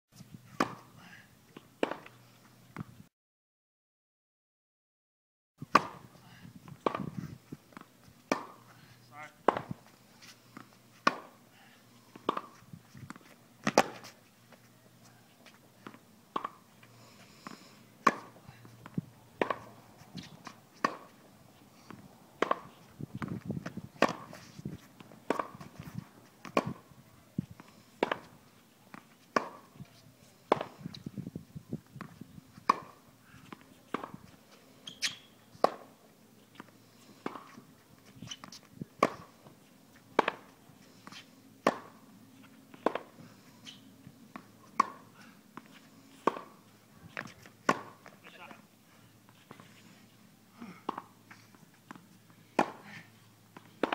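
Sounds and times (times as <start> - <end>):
racket hitting tennis ball: 0.6 - 0.9, 1.8 - 2.2, 5.6 - 6.1, 6.7 - 11.5, 12.1 - 27.0, 27.6 - 31.0, 31.9 - 36.0, 36.6 - 48.4, 50.7 - 53.9.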